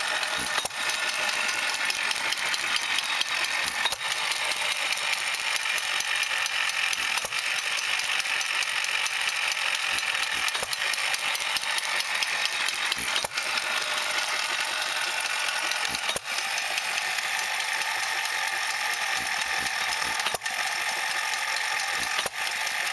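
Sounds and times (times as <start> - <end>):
stationary engine clattering: 0.0 - 22.9.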